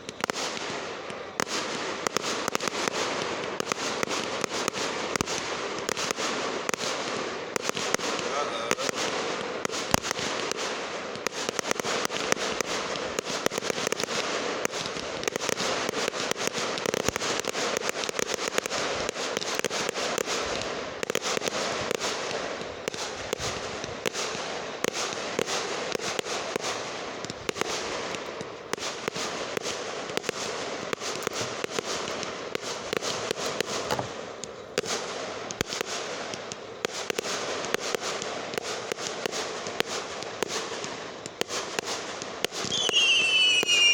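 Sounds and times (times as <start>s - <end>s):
fireworks crackling: 0.0s - 43.9s
sharp firework bangs: 0.0s - 43.9s.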